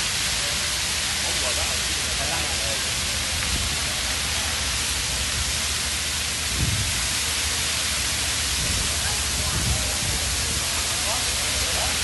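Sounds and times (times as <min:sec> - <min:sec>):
fountain water spraying and falling: 0:00.0 - 0:12.0.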